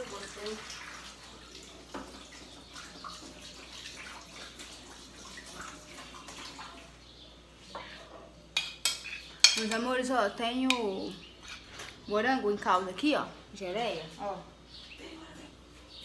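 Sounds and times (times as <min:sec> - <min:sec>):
faint running water: 0:00.0 - 0:15.5.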